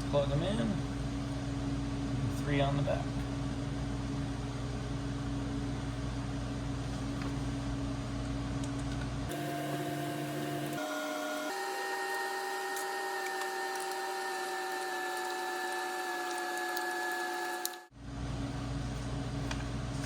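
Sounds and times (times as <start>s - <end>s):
whining mechanical hum: 0.0s - 20.0s.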